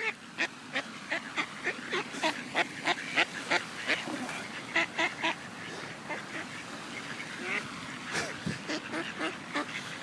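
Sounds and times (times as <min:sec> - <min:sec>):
duck quacking: 0:00.0 - 0:10.0.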